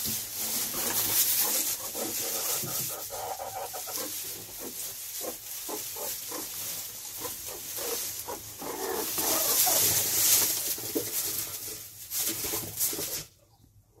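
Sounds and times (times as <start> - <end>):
rustling straw: 0.0 - 13.4.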